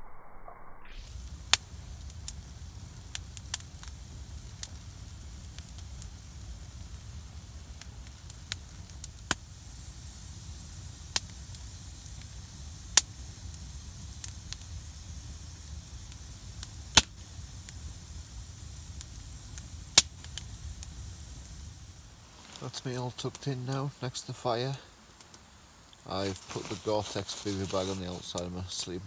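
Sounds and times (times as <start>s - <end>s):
sharp fire pops: 0.9s - 29.0s
campfire crackling: 1.0s - 29.0s.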